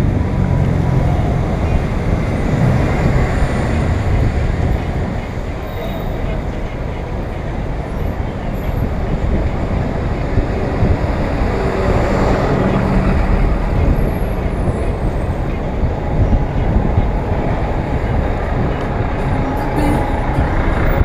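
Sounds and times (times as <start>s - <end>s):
bus engine running close: 0.0s - 21.0s
city traffic: 0.0s - 21.0s
wind rumble on microphone: 0.0s - 21.0s.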